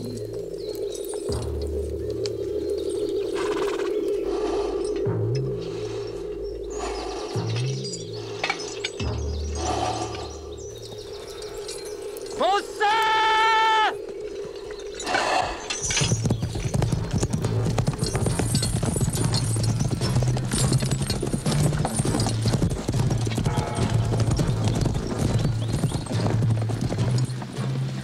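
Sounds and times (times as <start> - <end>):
horses galloping on grass: 0.0 - 5.0, 5.6 - 28.0
low droning music: 0.0 - 12.4, 14.0 - 28.0.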